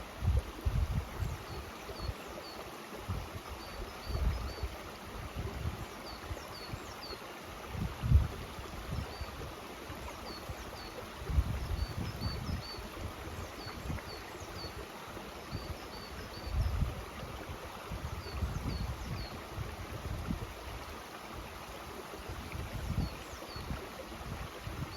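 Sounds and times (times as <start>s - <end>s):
mountain stream running: 0.0s - 24.9s.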